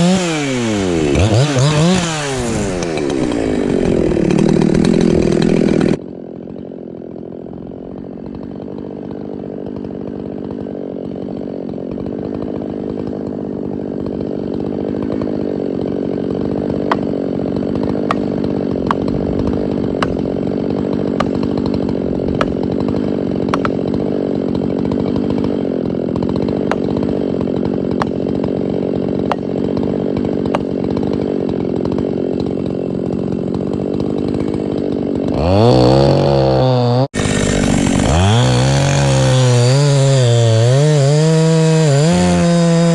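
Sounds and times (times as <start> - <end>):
chainsaw revving and idling: 0.0 - 42.9.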